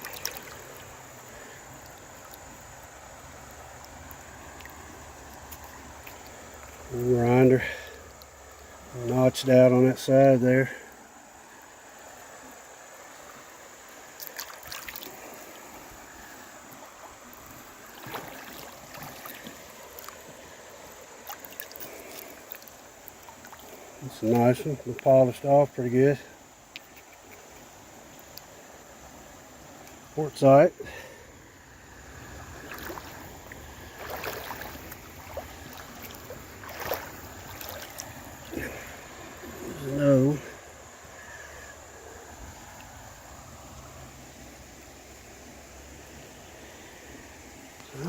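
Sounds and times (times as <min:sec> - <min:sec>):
creek water running: 0:00.0 - 0:48.0.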